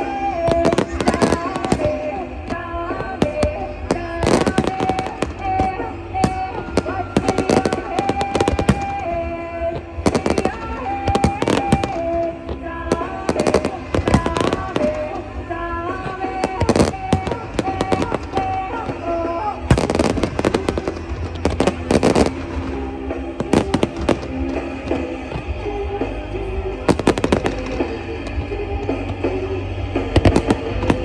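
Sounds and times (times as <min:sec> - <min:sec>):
fireworks bangs: 0:00.0 - 0:26.2, 0:26.8 - 0:31.0
music with stepping melody: 0:00.0 - 0:31.0.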